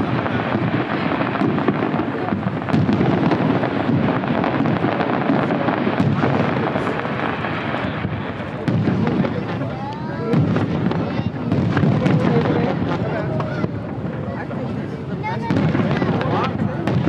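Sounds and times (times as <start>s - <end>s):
fireworks booming: 0.0s - 17.0s
sharp firework cracks: 0.0s - 17.0s.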